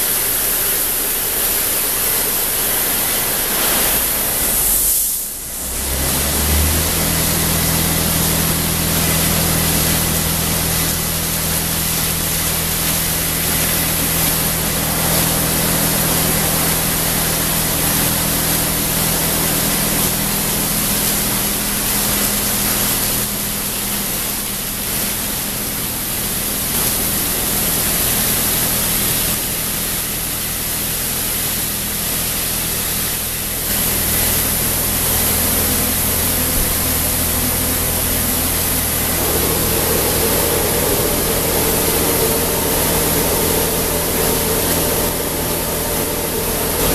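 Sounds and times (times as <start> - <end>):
low motor hum: 0.0 - 46.9
spinning wash brushes: 0.0 - 46.9
water spray hissing: 0.0 - 46.9.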